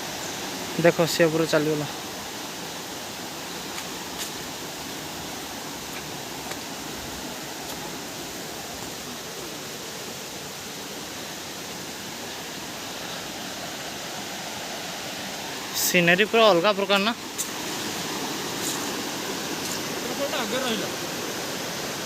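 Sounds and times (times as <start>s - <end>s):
distant waterfall rushing: 0.0s - 22.0s.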